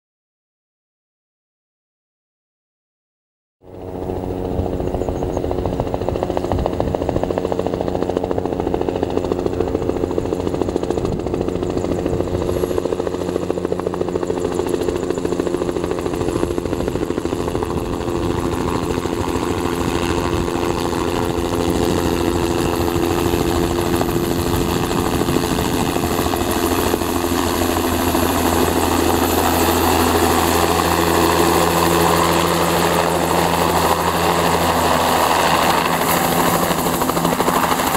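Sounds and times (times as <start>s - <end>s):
helicopter engine whine: 3.6s - 37.9s
helicopter rotor beat: 3.6s - 37.9s.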